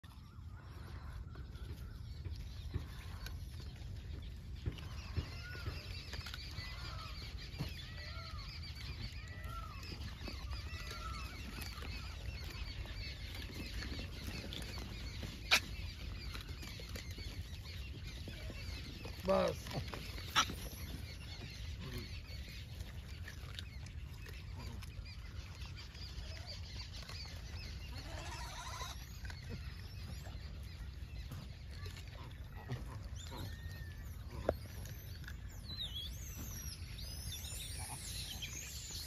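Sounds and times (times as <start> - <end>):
faint chatter of small birds: 0.0 - 39.0.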